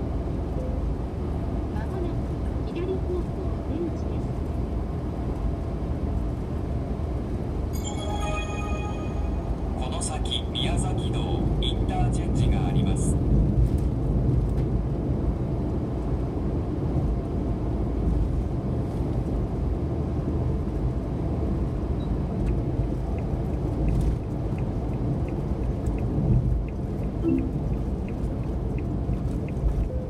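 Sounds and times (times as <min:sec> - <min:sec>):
engine and tyre rumble: 0:00.0 - 0:07.7, 0:09.7 - 0:30.0.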